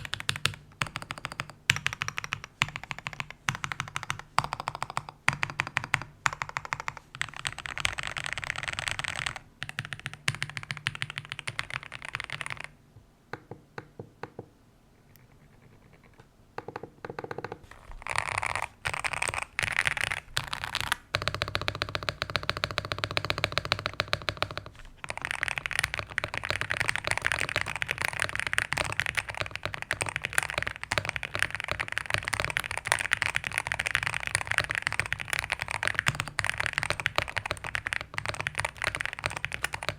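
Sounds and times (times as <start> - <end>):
mechanical keyboard typing: 0.0 - 12.7, 15.1 - 39.9.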